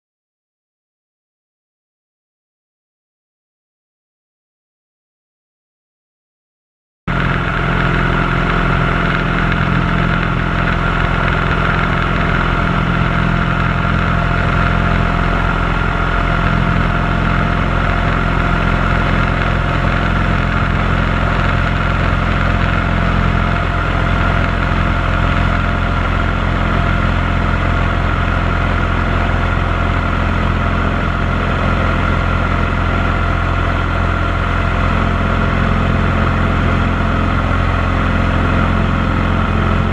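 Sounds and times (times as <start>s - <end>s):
light aircraft engine droning: 7.1s - 39.9s.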